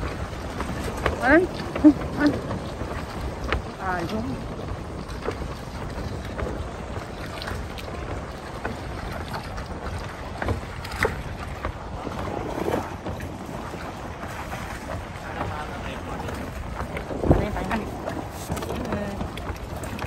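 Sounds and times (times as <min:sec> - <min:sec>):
footsteps on plastic dock: 0:00.0 - 0:20.0
wind buffeting microphone: 0:00.0 - 0:20.0.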